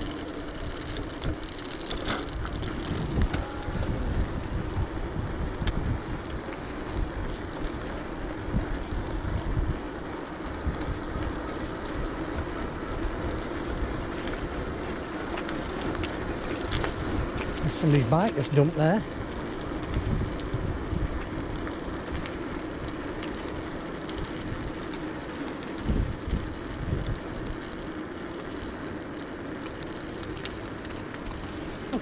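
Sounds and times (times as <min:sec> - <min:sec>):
wind buffeting microphone: 0:00.0 - 0:28.4
low rumble of ride: 0:00.0 - 0:32.0.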